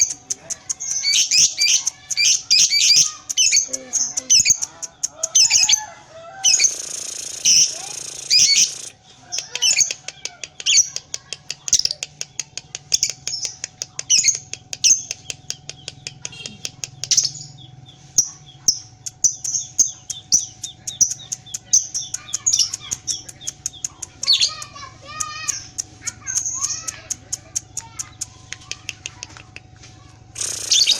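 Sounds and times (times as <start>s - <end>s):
bird chattering chirps: 0.0s - 5.8s, 6.4s - 30.9s.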